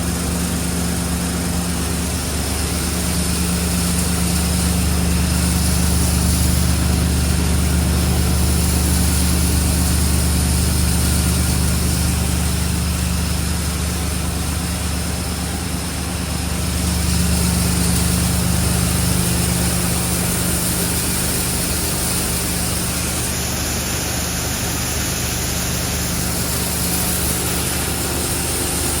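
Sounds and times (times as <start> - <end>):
machine hum with low drone: 0.0 - 29.0.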